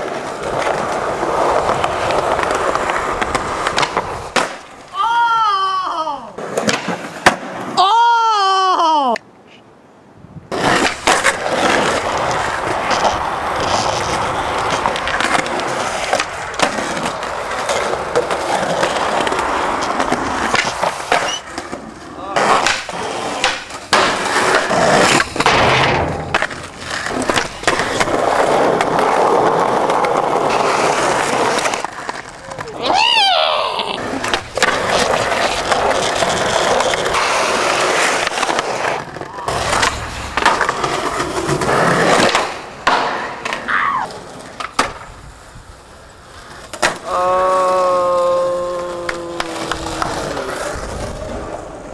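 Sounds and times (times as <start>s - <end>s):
skateboard clacks: 0.0s - 5.0s, 6.4s - 7.8s, 10.5s - 51.9s
skateboard rolling on concrete: 0.0s - 7.8s, 9.1s - 51.9s.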